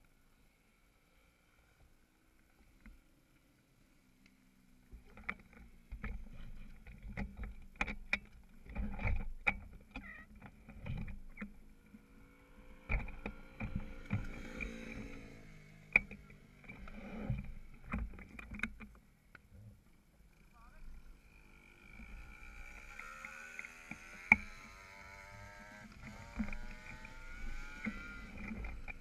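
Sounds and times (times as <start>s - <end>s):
motorcycle engines humming: 3.1s - 19.4s, 20.1s - 29.0s.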